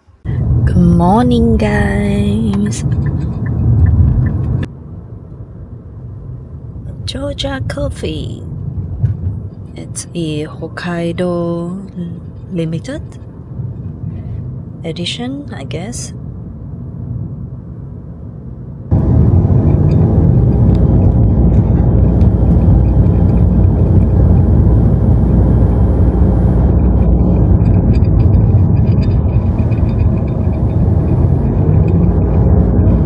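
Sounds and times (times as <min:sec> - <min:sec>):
car driving rumble: 0:00.0 - 0:14.9, 0:18.3 - 0:33.0.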